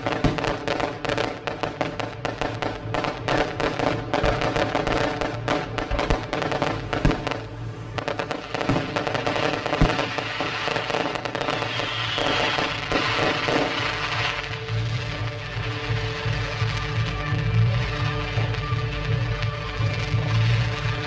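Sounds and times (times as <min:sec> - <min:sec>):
fireworks bangs and crackling: 0:00.0 - 0:21.0
music playing: 0:00.0 - 0:21.0.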